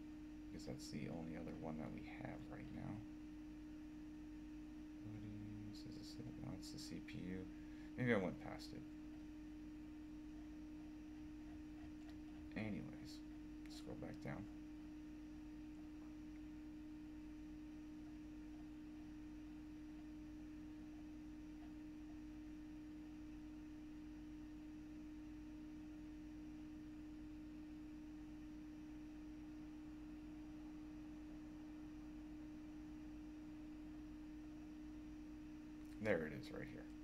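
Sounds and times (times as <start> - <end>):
faint electrical hum: 0.0 - 37.0.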